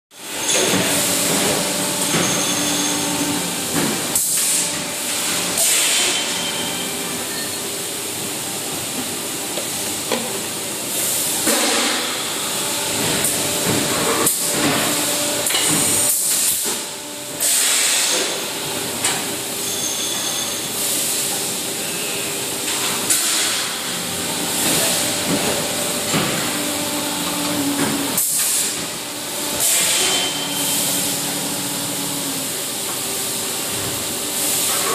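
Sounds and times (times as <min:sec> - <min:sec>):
machine humming and hissing: 0:00.2 - 0:34.9.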